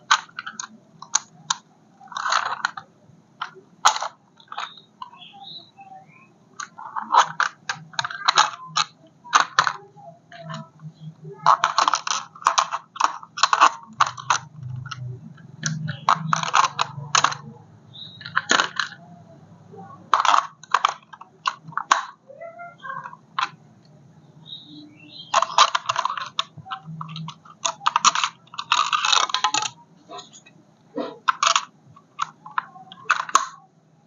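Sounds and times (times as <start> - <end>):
toy parts clicking and rattling: 0.0 - 6.0, 6.6 - 19.2, 19.8 - 23.6, 24.4 - 30.6, 31.2 - 33.6.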